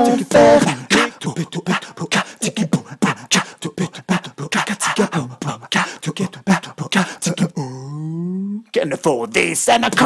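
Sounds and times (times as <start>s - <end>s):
man beatboxing: 0.0s - 8.7s.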